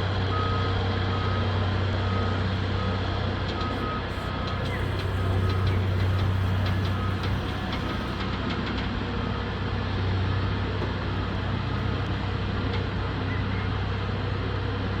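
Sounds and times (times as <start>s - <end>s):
construction machinery engine humming: 0.0s - 15.0s.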